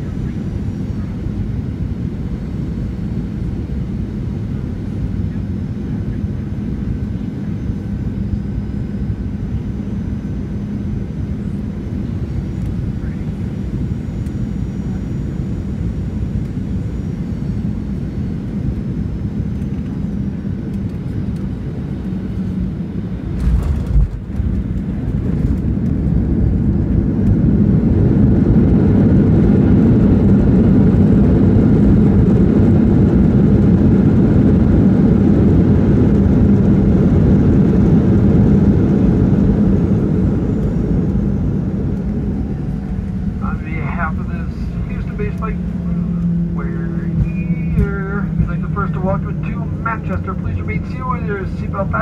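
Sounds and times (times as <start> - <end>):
aircraft engine and airflow noise: 0.0 - 52.0
jet engine reverse thrust roar: 0.0 - 52.0.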